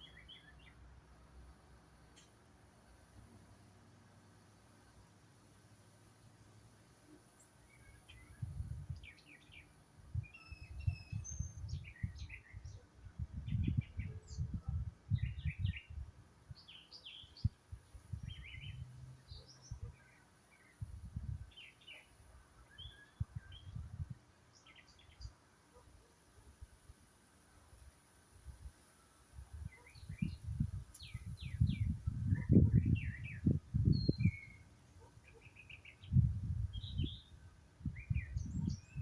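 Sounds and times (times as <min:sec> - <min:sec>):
small birds chirping: 0:00.0 - 0:26.9, 0:28.6 - 0:39.0.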